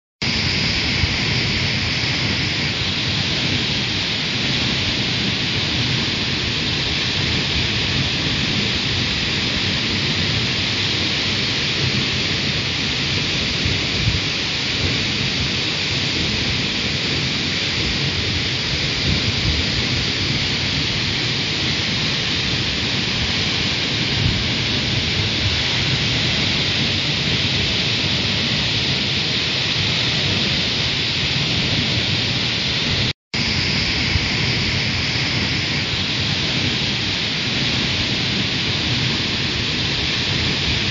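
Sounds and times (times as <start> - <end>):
waterfall rushing onto rocks: 0.2 - 40.9.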